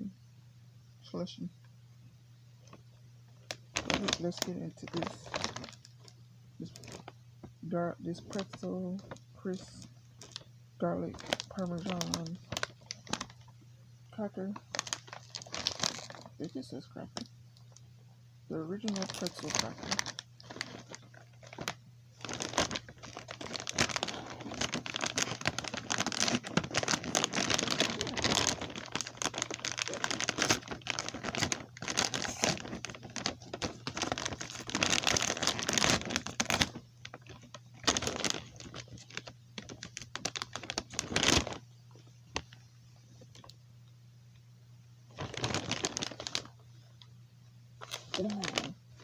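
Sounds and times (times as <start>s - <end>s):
plastic bag crinkling: 3.4s - 13.5s, 14.2s - 17.8s, 18.6s - 42.6s, 45.1s - 46.6s, 47.8s - 49.0s.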